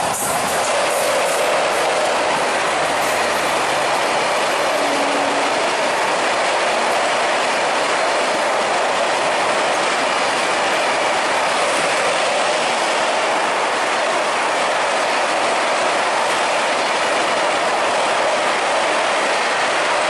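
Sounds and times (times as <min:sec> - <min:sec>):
clickety-clack of rails: 0:00.0 - 0:20.0
train wheels rushing on rails: 0:00.0 - 0:20.0.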